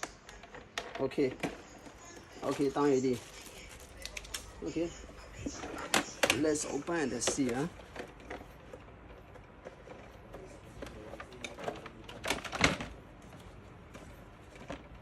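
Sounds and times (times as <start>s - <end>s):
folding shopping trolley rattling: 0.0s - 15.0s.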